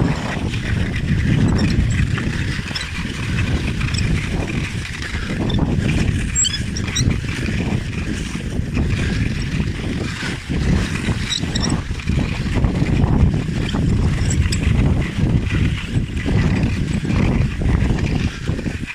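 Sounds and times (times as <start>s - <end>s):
wind rumbling on microphone: 0.0s - 18.9s.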